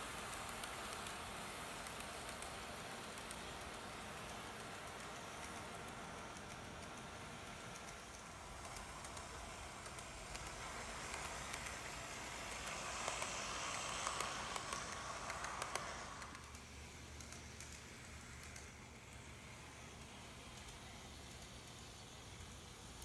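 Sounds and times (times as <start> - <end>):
model train rolling rattle: 0.0 - 23.0.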